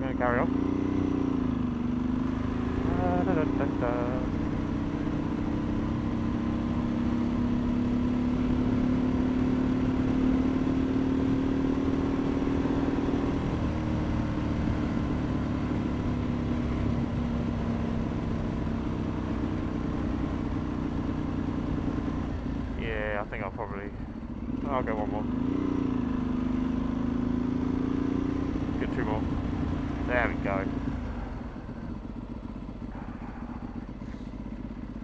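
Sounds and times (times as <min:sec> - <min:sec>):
motorcycle engine at speed: 0:00.0 - 0:35.0.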